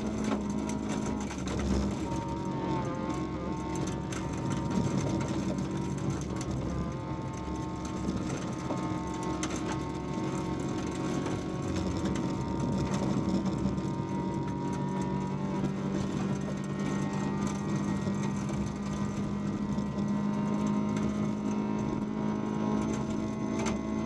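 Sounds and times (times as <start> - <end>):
car engine running hard: 0.0 - 24.0
car knocks and rattles: 0.0 - 24.0.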